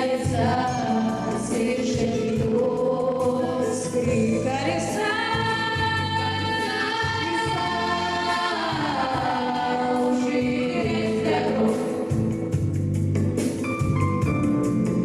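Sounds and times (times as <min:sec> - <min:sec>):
voices singing in harmony: 0:00.0 - 0:12.6
backing track with pulsing bass: 0:00.0 - 0:15.0.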